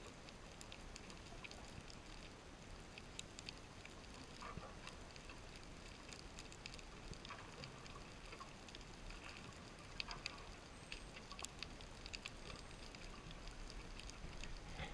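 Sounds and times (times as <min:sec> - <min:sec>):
steady hiss: 0:00.0 - 0:14.9
underwater crackling clicks: 0:00.0 - 0:14.9.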